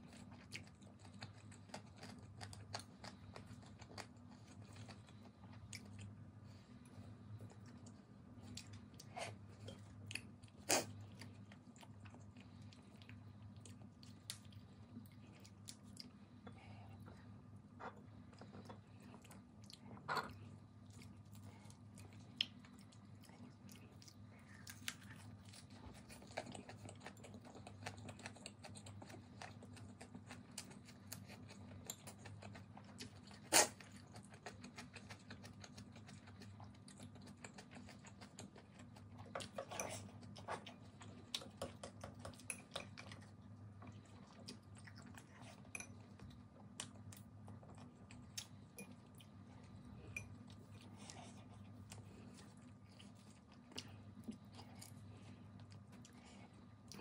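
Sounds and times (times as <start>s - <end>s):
chewing lettuce wrap: 0.0s - 57.0s
low steady hum: 0.0s - 57.0s.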